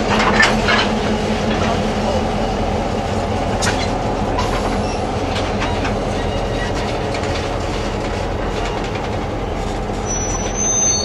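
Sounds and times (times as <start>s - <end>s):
wheels clattering over rail joints: 0.0s - 2.5s, 3.1s - 11.0s
steady low rumble: 0.0s - 10.0s.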